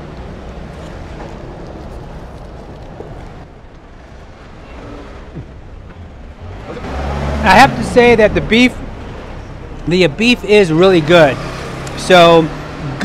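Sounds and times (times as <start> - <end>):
cars going by: 0.0 - 13.0.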